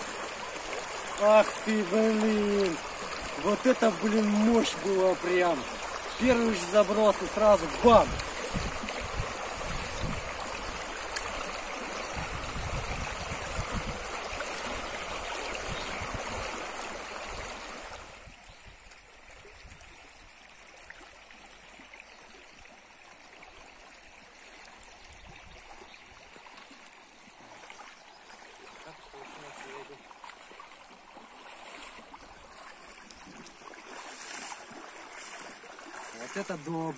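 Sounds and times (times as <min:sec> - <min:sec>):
water rushing over river riffle: 0:00.0 - 0:20.1, 0:20.7 - 0:36.9.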